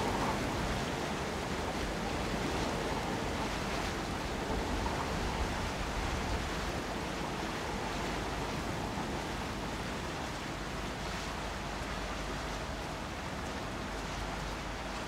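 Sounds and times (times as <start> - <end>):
wind and sea water rushing: 0.0 - 15.0.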